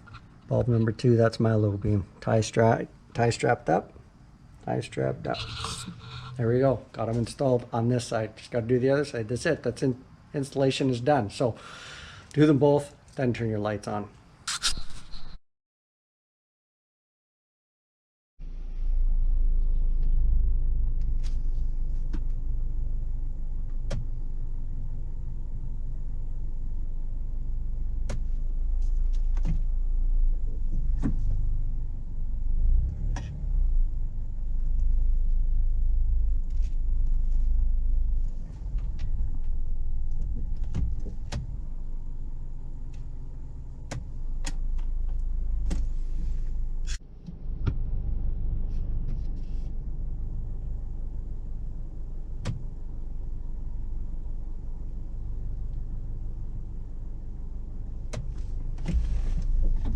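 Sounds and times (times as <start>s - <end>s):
car engine rumbling: 0.0s - 8.2s, 18.4s - 59.9s.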